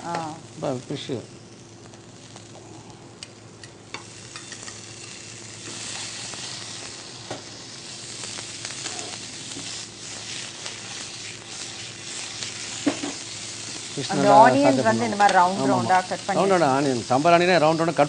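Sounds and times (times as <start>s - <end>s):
fish sizzling in oil: 0.0s - 18.0s.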